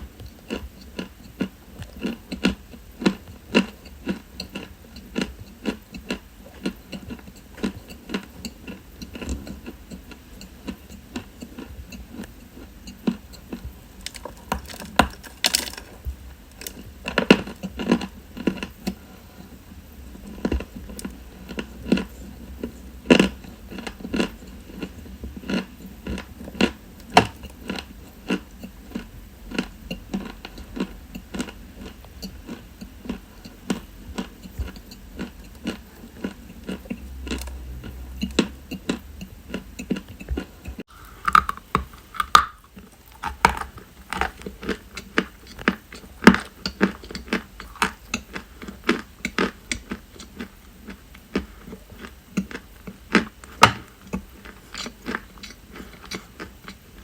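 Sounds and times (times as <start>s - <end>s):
crisp chewing crunches: 0.0s - 19.0s, 20.2s - 57.0s.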